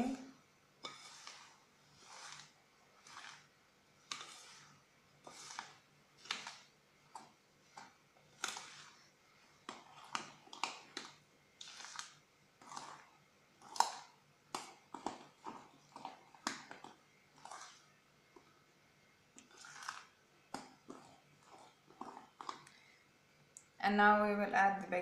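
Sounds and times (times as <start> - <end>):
spoon scraping batter: 0.0 - 23.0.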